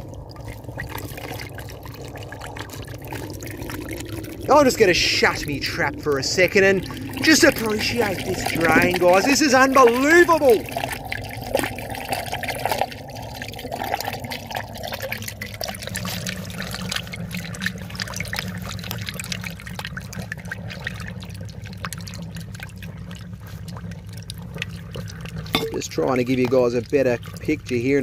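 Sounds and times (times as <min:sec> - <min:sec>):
low steady hum: 0:00.0 - 0:28.0
water draining down a pipe: 0:00.0 - 0:28.0.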